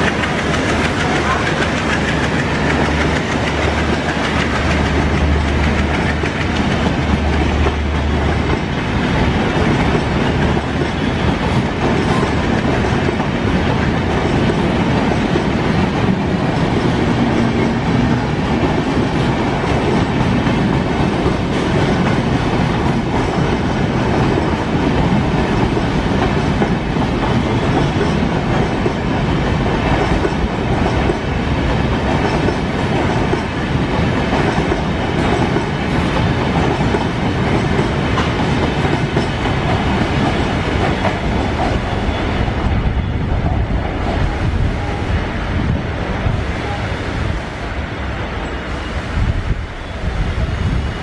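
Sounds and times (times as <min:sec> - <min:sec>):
train wheels clattering on rails: 0:00.0 - 0:47.8.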